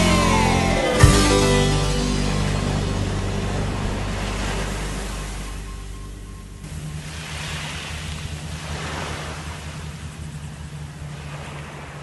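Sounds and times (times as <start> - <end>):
boat engine hum: 0.0 - 12.0
rushing water: 0.0 - 12.0.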